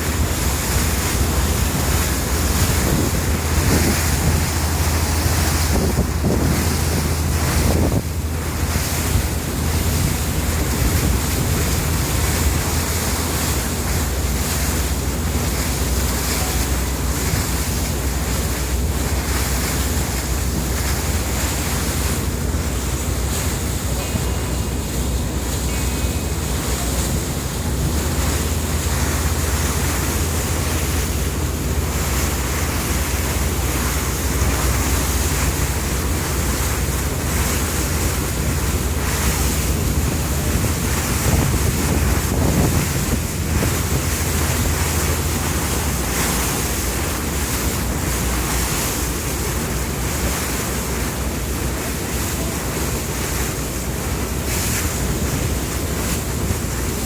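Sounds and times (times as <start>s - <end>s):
boat engine drone: 0.0s - 57.0s
water rushing past hull: 0.0s - 57.0s
wind buffeting microphone: 0.0s - 57.0s.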